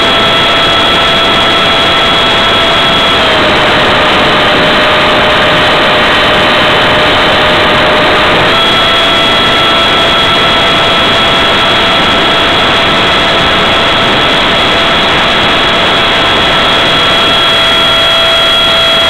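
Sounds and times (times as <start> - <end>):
electric ducted fan whine: 0.0 - 19.0.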